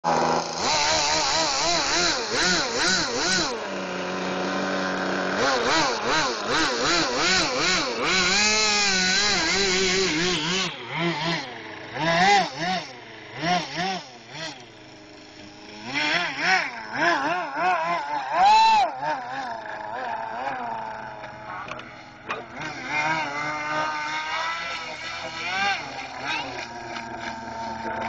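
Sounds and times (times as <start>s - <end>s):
model airboat motor revving: 0.1s - 28.0s.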